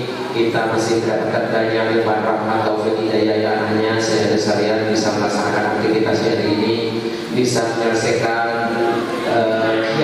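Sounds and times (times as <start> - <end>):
man chanting melodic recitation: 0.0 - 10.0.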